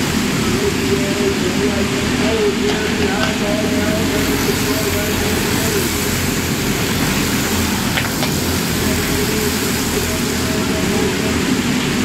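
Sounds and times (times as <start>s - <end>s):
racing kart engines droning: 0.0s - 12.0s.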